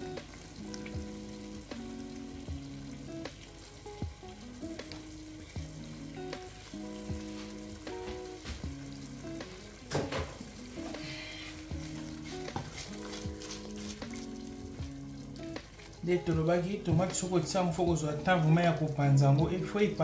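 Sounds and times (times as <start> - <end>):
sauce sizzling in a pot: 0.0 - 20.0
soft background music: 0.0 - 20.0.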